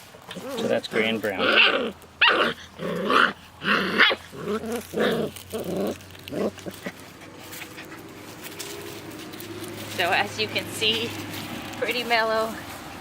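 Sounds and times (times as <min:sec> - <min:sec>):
puppies growling and yipping: 0:00.2 - 0:11.8.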